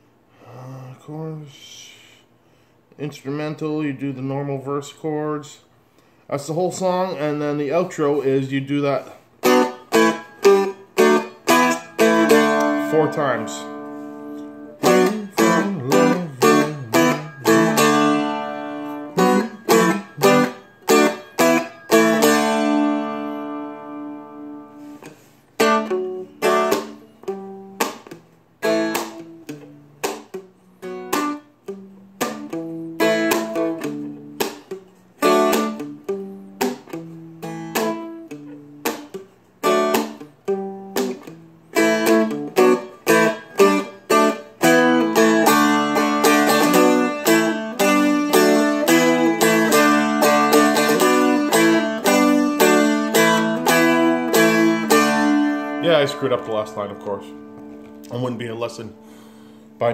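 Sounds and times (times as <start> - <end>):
fretted instrument strummed: 6.7 - 59.9.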